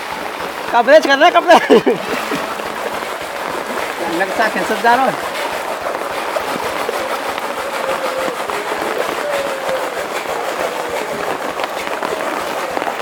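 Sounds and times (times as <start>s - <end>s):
rain on flooded street: 0.0s - 13.0s.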